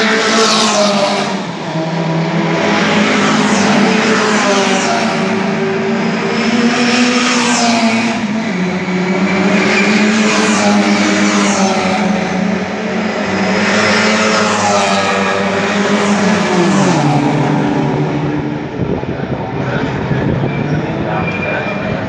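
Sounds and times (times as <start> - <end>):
racing cars passing: 0.0 - 22.0.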